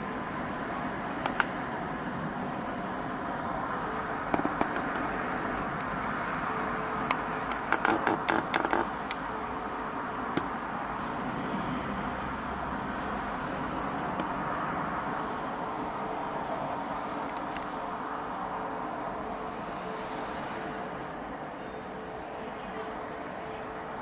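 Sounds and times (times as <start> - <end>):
distant city traffic hum: 0.0 - 24.0.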